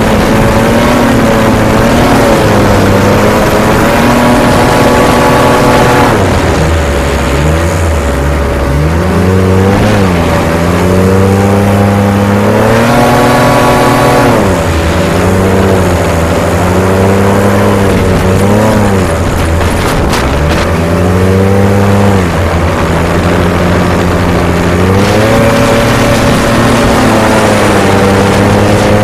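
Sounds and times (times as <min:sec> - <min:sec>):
hovercraft engine revving: 0:00.0 - 0:29.0.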